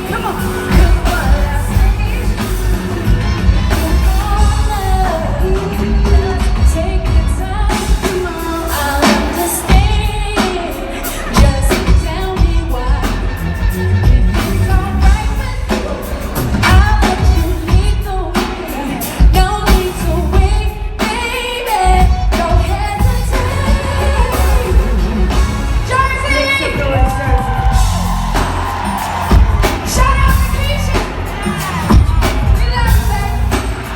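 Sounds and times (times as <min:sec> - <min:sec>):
live band with heavy bass: 0:00.0 - 0:33.9
steady drum beat: 0:00.0 - 0:33.9.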